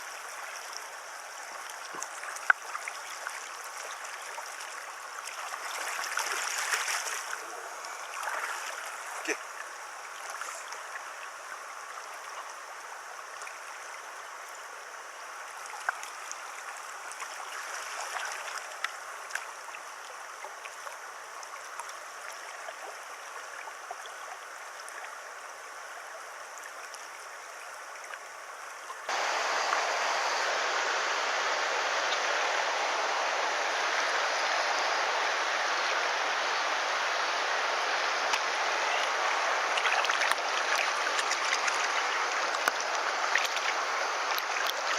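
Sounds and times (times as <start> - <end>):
river water rushing: 0.0 - 20.4, 29.1 - 44.9.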